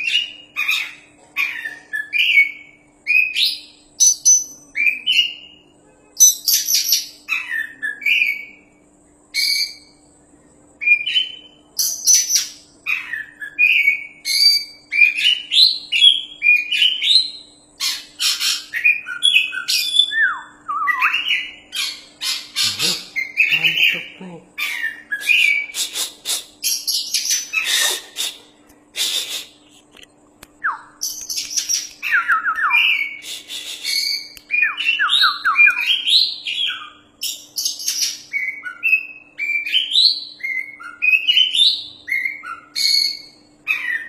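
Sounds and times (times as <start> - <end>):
songbird singing: 0.0 - 28.4, 29.1 - 44.0.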